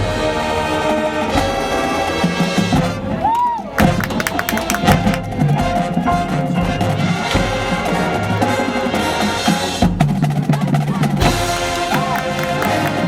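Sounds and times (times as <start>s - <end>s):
marching band wind notes: 1.2s - 13.0s
drumline percussion: 1.4s - 13.0s.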